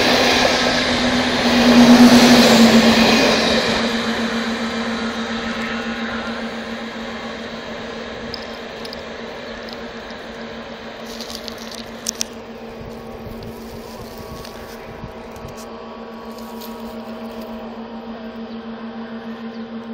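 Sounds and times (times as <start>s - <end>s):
steady low hum: 0.0s - 19.9s
train rumbling away: 0.0s - 19.9s.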